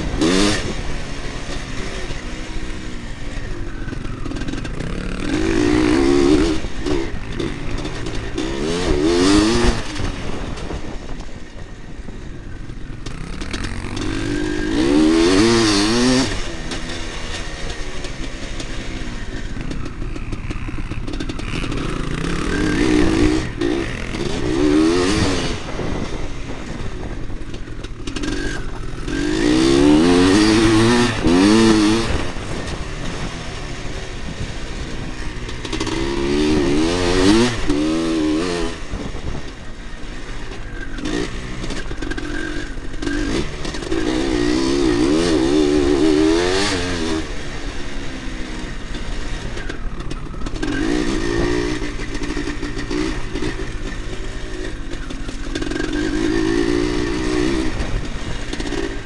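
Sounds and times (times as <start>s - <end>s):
wind noise: 0.0s - 18.2s, 18.9s - 59.0s
motocross bike engine revving: 0.0s - 59.0s.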